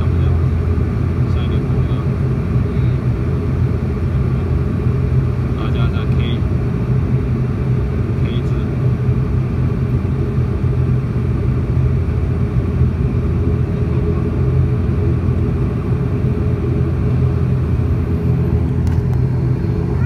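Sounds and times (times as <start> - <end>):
turboprop engine drone: 0.0 - 20.0.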